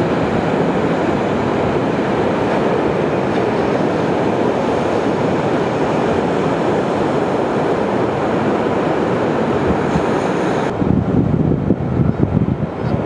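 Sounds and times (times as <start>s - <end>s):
ocean surf roar: 0.0s - 13.0s
wind: 0.0s - 13.0s.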